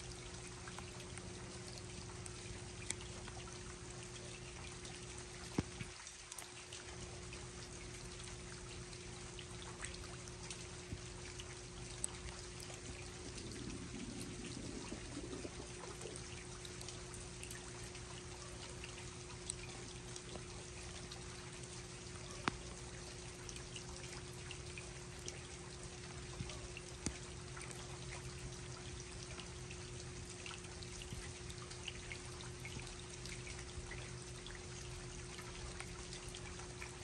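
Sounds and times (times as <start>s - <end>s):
rain falling: 0.0s - 37.0s
steady low hum: 0.0s - 37.0s.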